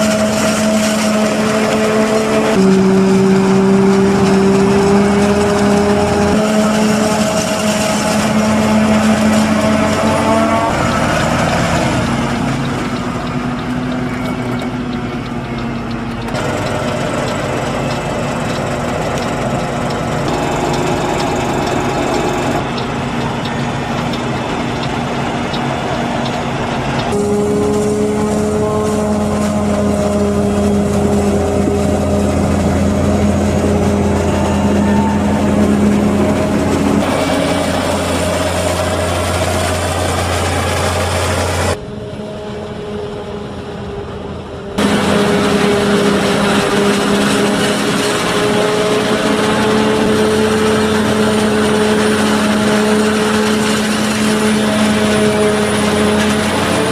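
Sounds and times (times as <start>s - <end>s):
forage harvester engine drone: 0.0s - 56.9s.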